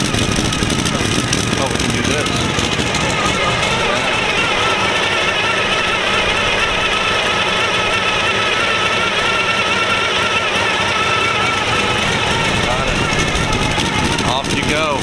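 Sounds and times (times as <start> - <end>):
engine running with wavering whine: 0.0 - 15.0.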